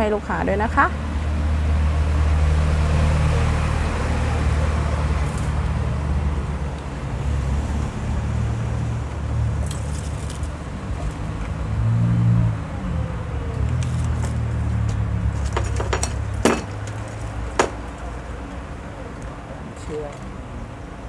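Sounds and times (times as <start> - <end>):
low engine-like hum: 0.0 - 21.0.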